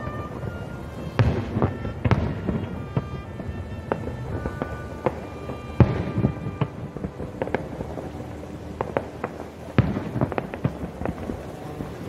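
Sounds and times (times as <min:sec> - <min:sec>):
fireworks bursting with bangs: 0:00.0 - 0:12.0
fireworks pops and crackles: 0:00.0 - 0:12.0.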